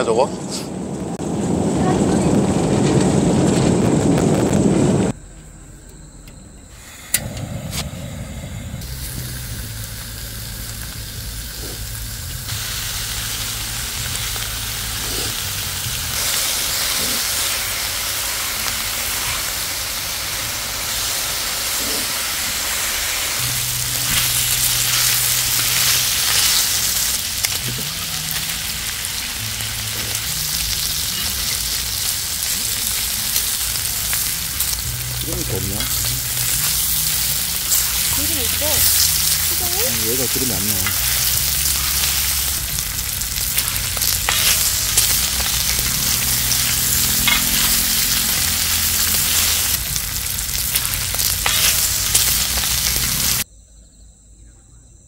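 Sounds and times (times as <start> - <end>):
meat sizzling on griddle: 8.8 - 53.4.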